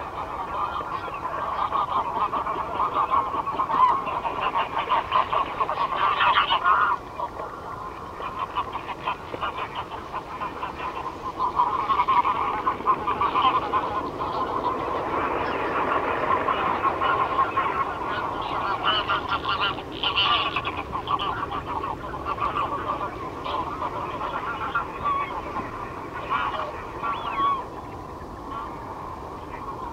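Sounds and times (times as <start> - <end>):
geese honking: 0.0 - 29.9.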